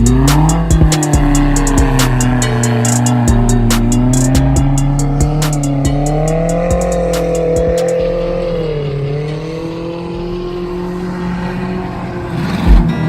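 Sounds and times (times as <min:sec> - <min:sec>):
hi-hat beat music: 0:00.0 - 0:10.7
race vehicle engine revving: 0:00.0 - 0:13.0.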